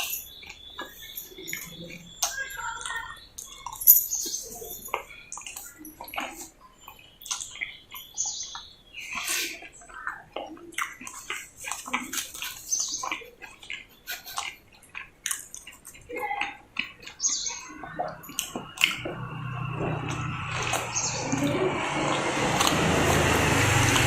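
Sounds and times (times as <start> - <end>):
close eating and chewing: 0.0 - 24.0.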